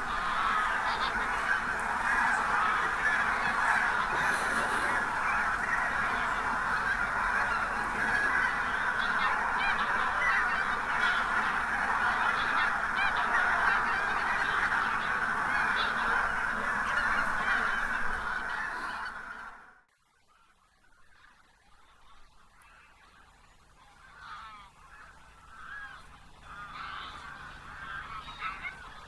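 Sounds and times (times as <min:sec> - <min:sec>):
flock of geese honking: 0:00.0 - 0:29.0.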